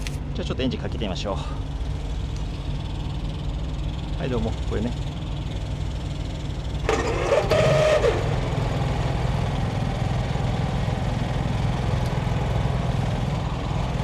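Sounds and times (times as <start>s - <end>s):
generator engine running: 0.0s - 14.0s.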